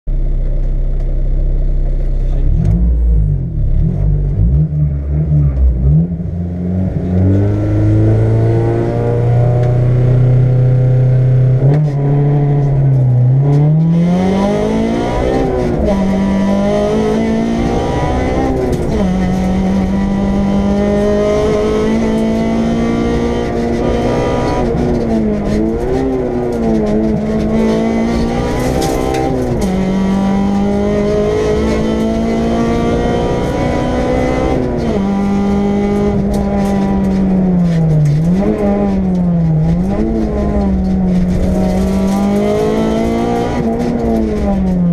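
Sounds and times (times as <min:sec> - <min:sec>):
car engine accelerating: 0:00.1 - 0:44.9.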